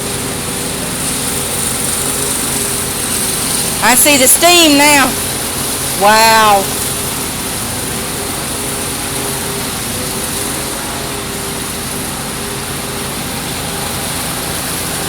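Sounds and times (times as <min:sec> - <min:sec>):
pressure washer engine and pump: 0:00.0 - 0:15.0
water spraying onto concrete: 0:00.0 - 0:15.0.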